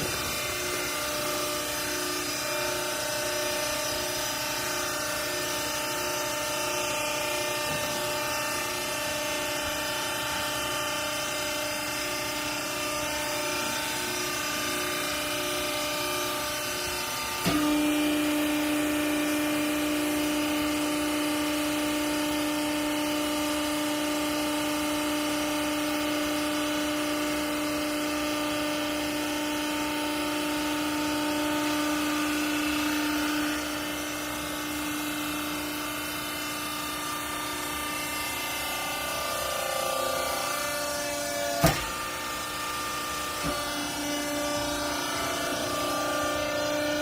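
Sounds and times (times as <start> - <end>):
hydraulic pump whining: 0.0 - 47.0
steady machine hum: 0.0 - 47.0.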